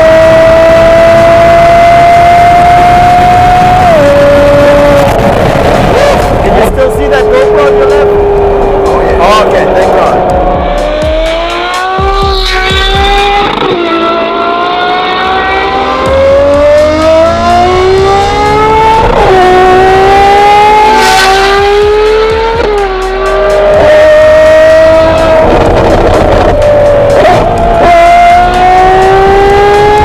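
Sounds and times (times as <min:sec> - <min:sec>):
car engine accelerating hard: 0:00.0 - 0:30.0
gear upshifts: 0:00.1 - 0:30.0.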